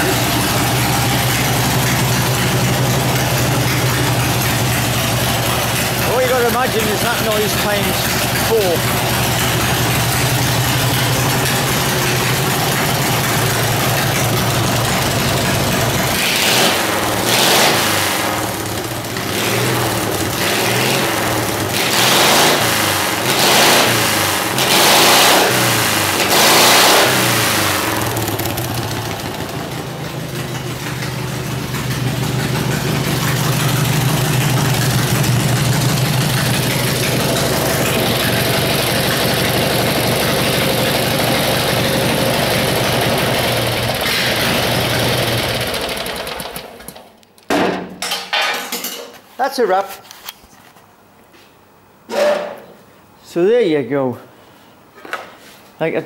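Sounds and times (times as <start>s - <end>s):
lawnmower engine revving: 0.0s - 47.1s.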